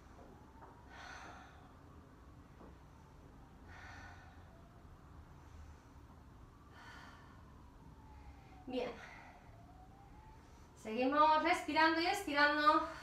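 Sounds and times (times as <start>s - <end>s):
woman breathing slowly: 0.0s - 10.8s.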